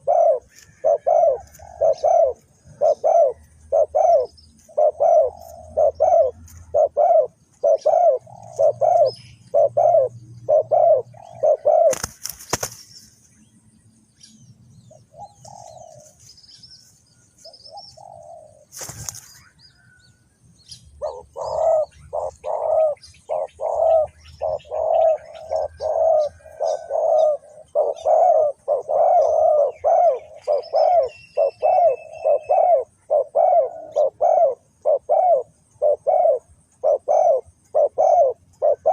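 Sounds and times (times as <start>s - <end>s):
doves cooing: 0.0s - 12.8s, 14.9s - 16.3s, 17.7s - 20.0s, 21.0s - 38.9s
small birds chirping: 0.0s - 38.9s.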